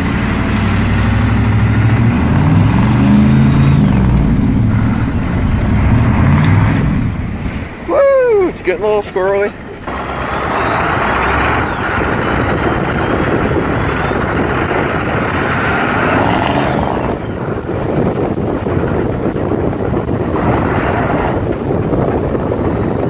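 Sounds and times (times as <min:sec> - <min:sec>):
diesel engine: 0:00.0 - 0:23.0
road noise: 0:00.0 - 0:23.0.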